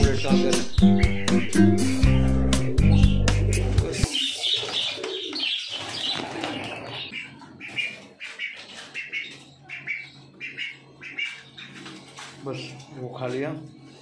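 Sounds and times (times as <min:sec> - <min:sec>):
pigeons cooing: 0:00.0 - 0:12.4
small birds chirping: 0:00.0 - 0:13.2.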